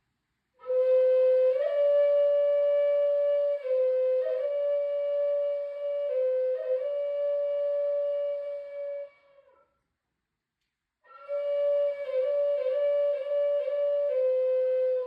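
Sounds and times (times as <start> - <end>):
flute playing slow melody: 0.6 - 9.6, 11.1 - 15.0.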